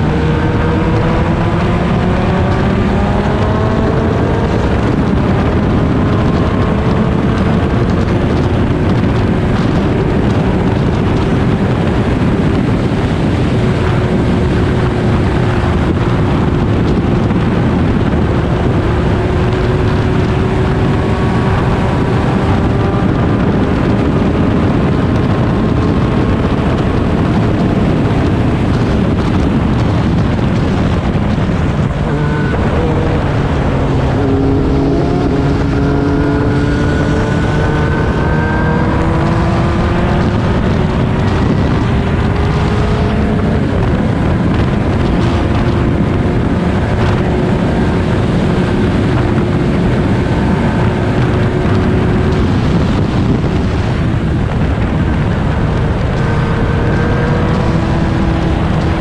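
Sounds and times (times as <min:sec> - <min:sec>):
race car engine under load: 0:00.0 - 0:59.0
wind noise on microphone: 0:00.0 - 0:59.0.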